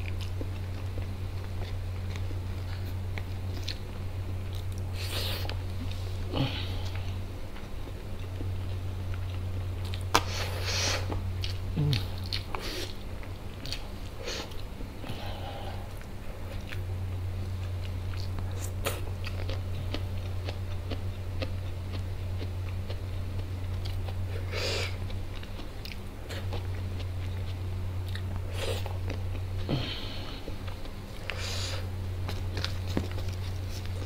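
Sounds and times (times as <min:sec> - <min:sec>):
person chewing food: 0:00.0 - 0:34.0
steady low hum: 0:00.0 - 0:34.0.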